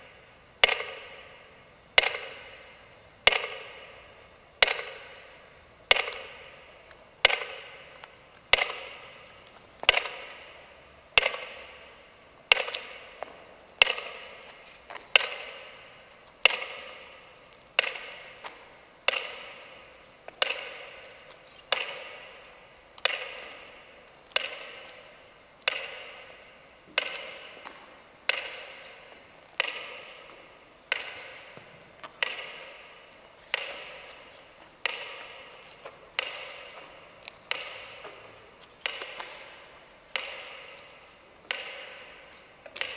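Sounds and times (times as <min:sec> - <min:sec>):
metronome ticking: 0:00.0 - 0:42.9.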